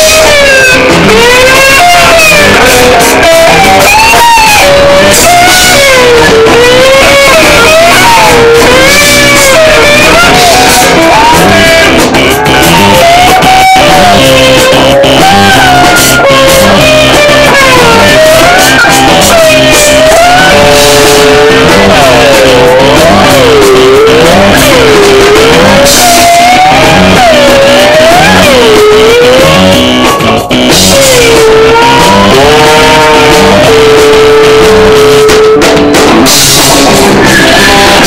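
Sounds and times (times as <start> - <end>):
electric guitar lead: 0.0 - 38.0
live rock band: 0.0 - 38.0.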